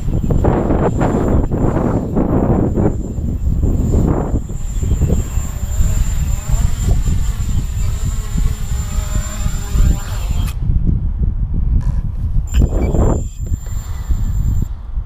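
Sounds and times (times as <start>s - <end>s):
drone motors whining: 0.0s - 10.6s, 11.8s - 14.8s
wind rumble on microphone: 0.0s - 15.0s.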